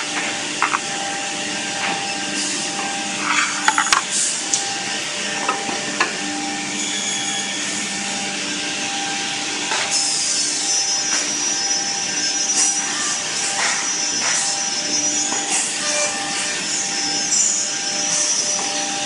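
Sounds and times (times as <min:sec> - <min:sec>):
high machine whine: 0:00.0 - 0:19.0.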